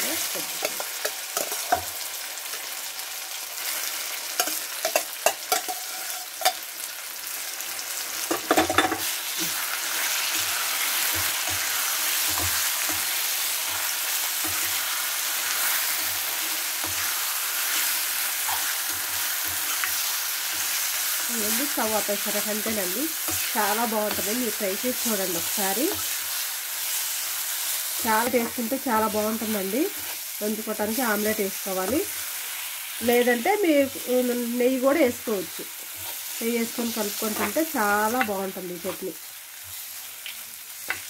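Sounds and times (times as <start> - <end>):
chutney sizzling in a pan: 0.0 - 41.0.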